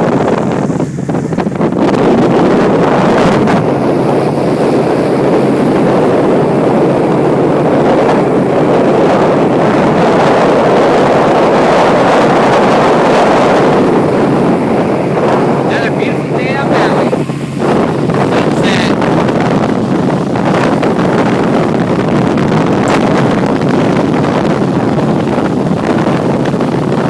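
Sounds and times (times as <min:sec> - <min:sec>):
boat moving through water: 0:00.0 - 0:27.0
wind rushing over microphone: 0:00.0 - 0:27.0.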